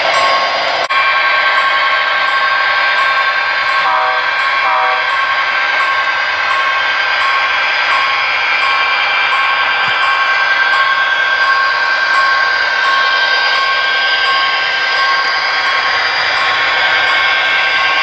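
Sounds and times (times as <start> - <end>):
model train whirring: 0.0 - 18.0
steady high tones: 0.0 - 18.0.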